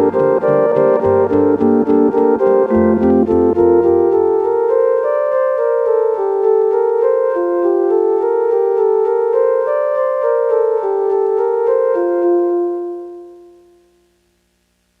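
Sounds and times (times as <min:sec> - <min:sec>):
slow piano-like keyboard music: 0:00.0 - 0:14.2.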